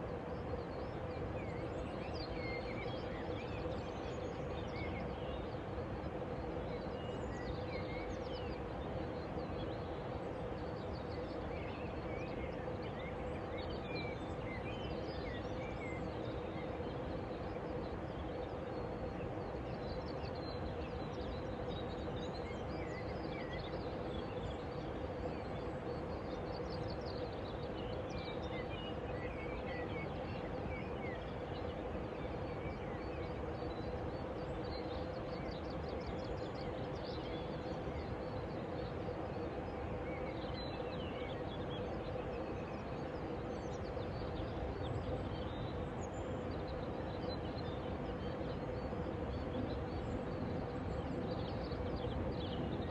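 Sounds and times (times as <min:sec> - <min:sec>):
constant low hum: 0:00.0 - 0:52.9.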